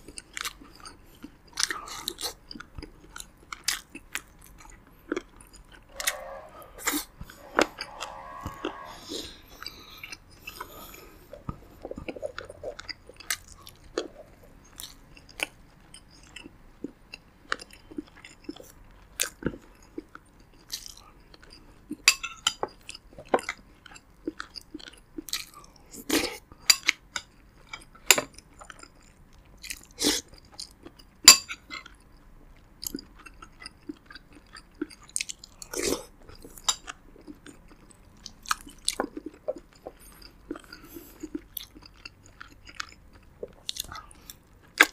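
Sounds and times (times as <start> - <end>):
wet chewing with crunches: 0.0 - 44.9.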